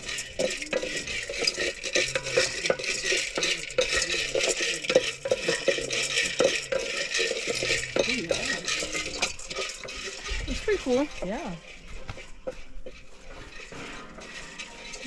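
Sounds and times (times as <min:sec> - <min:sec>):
coffee beans rattling in a pan: 0:00.0 - 0:15.0.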